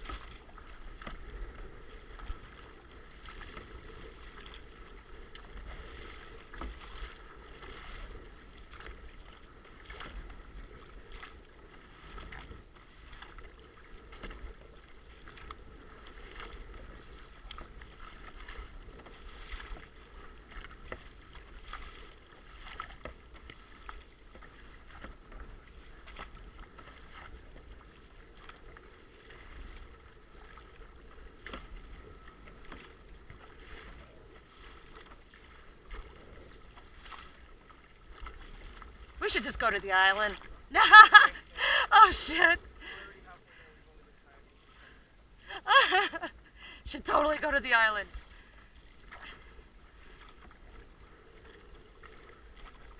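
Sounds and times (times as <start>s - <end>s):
kayak paddle splashing water: 0.0s - 52.9s
water washing against hull: 0.0s - 52.9s.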